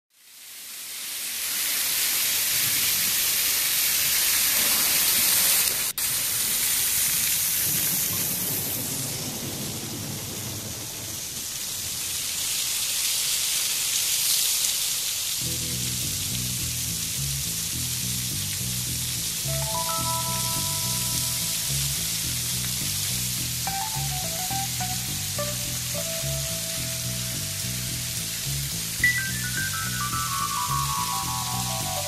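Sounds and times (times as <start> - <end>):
heavy rain pouring: 1.2 - 32.0.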